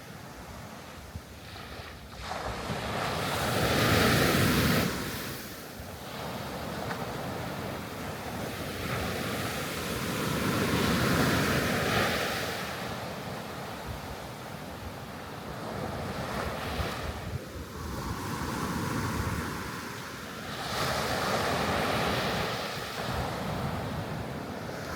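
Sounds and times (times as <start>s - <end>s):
sea waves washing on shore: 0.0s - 24.9s
wind rumbling on microphone: 0.1s - 24.9s.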